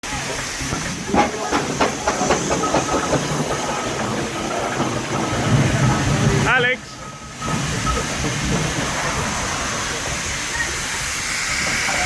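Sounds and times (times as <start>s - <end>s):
hiss of steam: 0.0s - 12.0s
steam engine exhaust beats: 0.0s - 12.0s.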